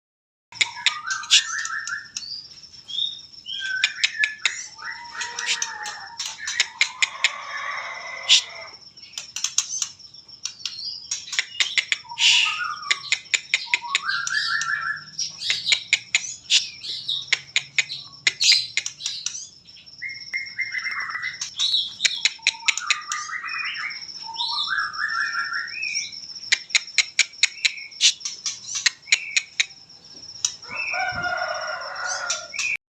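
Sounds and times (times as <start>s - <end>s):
songbird singing: 0.5s - 32.8s.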